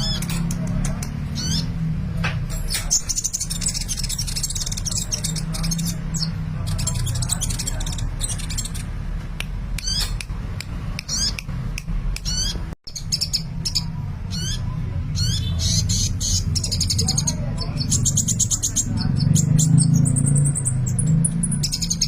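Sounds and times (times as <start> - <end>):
bird twittering and chirping: 0.0 - 9.1, 9.7 - 10.4, 11.0 - 22.0.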